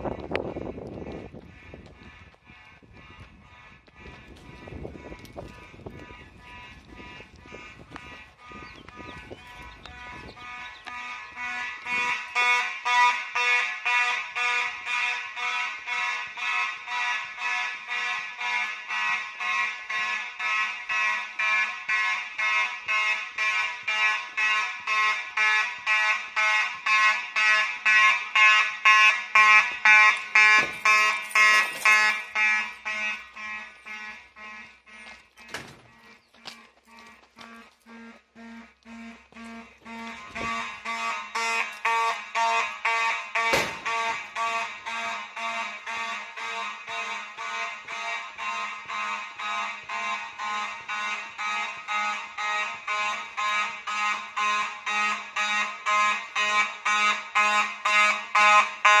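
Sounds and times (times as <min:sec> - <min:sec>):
pulsed fire alarm horn: 0:00.0 - 0:59.0.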